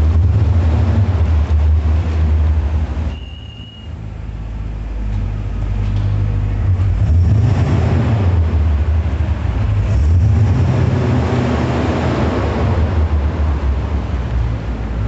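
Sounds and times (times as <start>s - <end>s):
deep car exhaust rumble: 0.0s - 15.0s.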